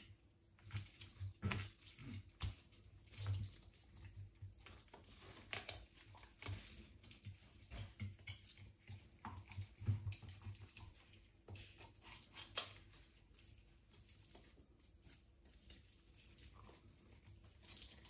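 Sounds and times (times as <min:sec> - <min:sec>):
knife squelching through fish: 0:00.6 - 0:18.0.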